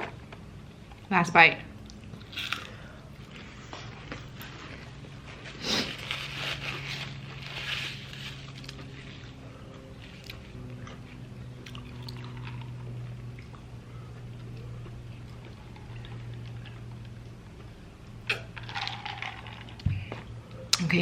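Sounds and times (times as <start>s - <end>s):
steady low hum: 0.0s - 21.0s
crunching and chewing: 1.8s - 20.3s.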